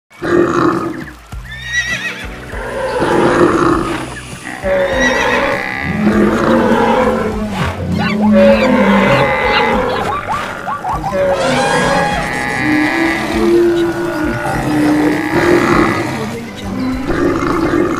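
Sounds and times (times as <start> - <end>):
horse whinnying: 1.5 - 17.8
low drawn-out animal calls: 2.6 - 17.9.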